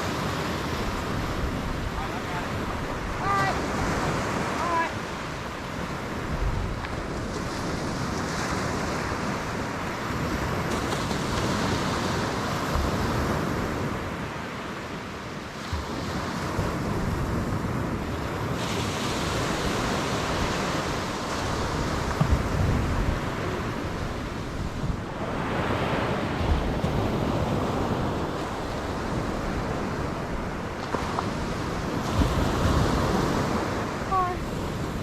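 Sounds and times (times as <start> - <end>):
ocean surf washing onto beach: 0.0 - 35.0
wind rumbling on microphone: 0.0 - 35.0.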